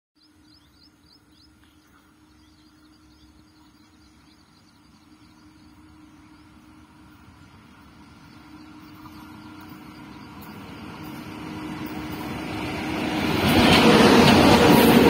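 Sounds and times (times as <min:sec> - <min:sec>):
birds chirping: 0:00.2 - 0:13.2
distant train rumble: 0:00.2 - 0:15.0.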